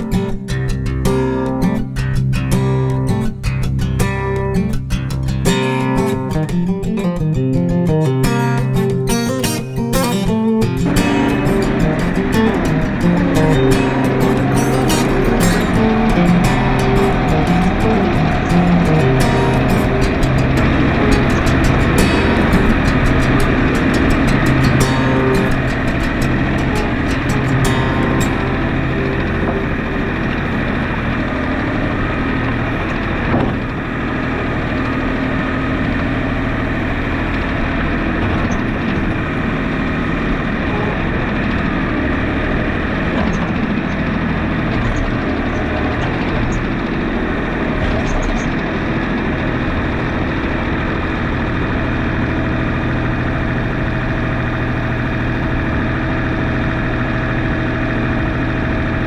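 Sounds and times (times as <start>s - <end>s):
tractor engine running: 10.3s - 59.0s.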